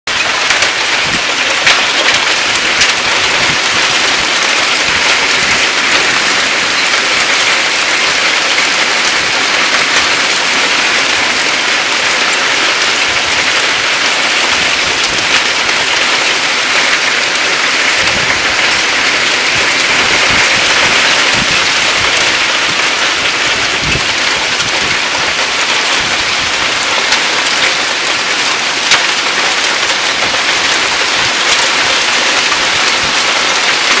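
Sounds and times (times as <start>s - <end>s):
heavy rain and hail: 0.1s - 34.0s.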